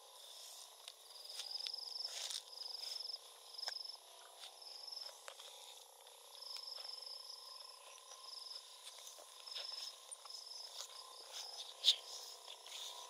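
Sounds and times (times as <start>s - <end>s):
insect buzzy trills: 0.0s - 13.0s.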